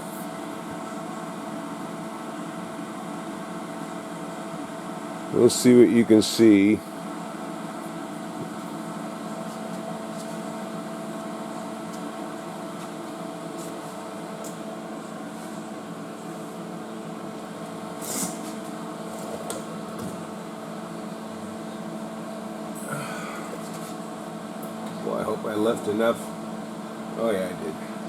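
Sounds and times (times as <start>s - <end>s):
shop equipment humming: 0.0s - 28.0s.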